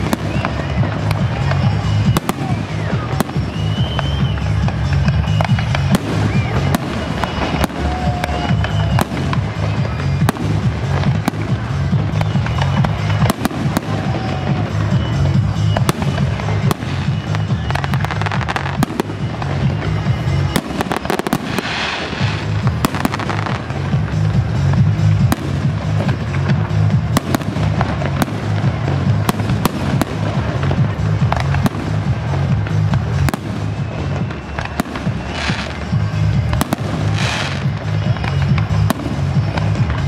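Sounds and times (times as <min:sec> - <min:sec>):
fireworks bangs and crackles: 0:00.0 - 0:40.0
music with heavy bass: 0:00.0 - 0:40.0.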